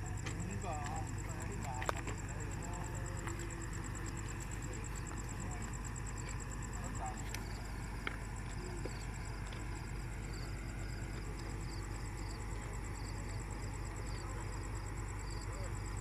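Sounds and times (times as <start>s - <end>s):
engine running low rumble: 0.0s - 16.0s
insects chirping: 0.0s - 16.0s.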